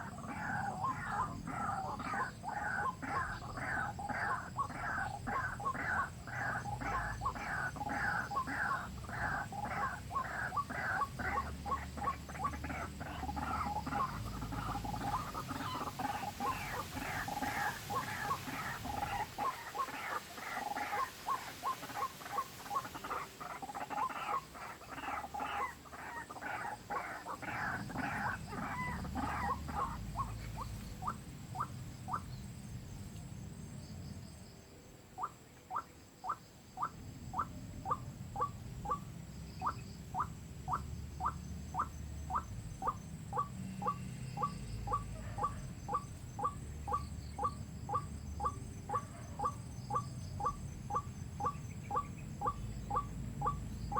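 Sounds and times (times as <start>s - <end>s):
waterhen calls: 0.0s - 32.5s, 35.2s - 53.9s.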